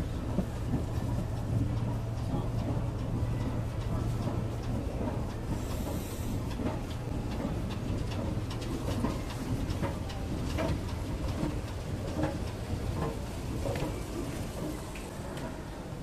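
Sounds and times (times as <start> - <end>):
scattered clicks and knocks: 0.0 - 15.5
low city hum: 0.0 - 16.0.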